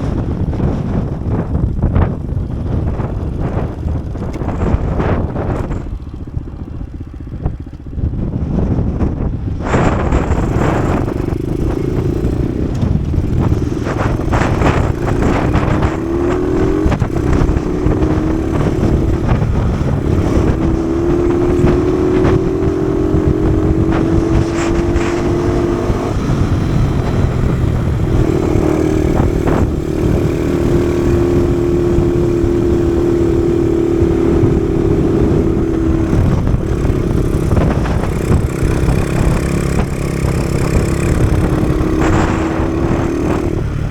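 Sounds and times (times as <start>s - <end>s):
motorcycle engine revving: 0.0s - 43.9s
wind rumbling on microphone: 0.0s - 43.9s.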